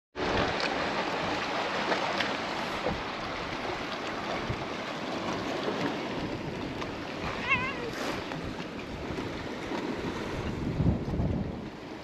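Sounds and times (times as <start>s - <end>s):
sea: 0.2s - 12.0s
wind: 0.2s - 12.0s.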